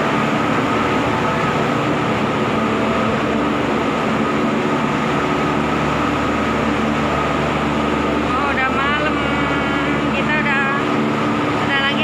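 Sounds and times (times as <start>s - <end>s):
ship engines rumbling drone: 0.0s - 12.0s.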